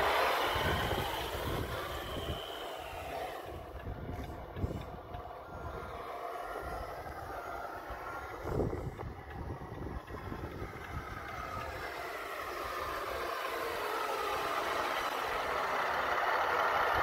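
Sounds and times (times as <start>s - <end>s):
distant rc car driving: 0.0s - 17.0s.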